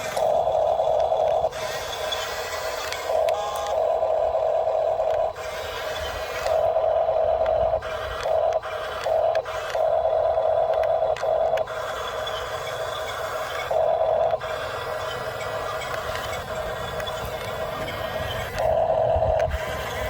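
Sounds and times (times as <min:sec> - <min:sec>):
faint motor hum: 0:00.0 - 0:20.0
toy electric motors whining: 0:00.0 - 0:20.0.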